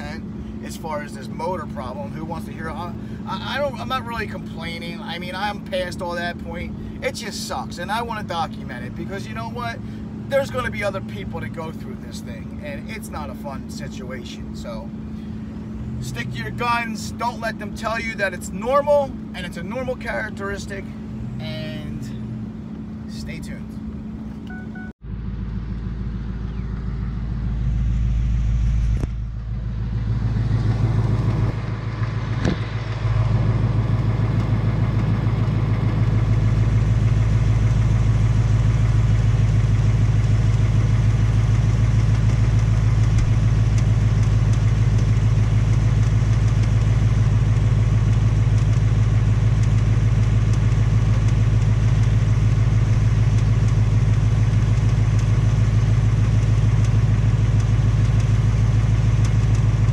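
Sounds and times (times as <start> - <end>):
car engine idling with ticking: 0.0 - 59.9.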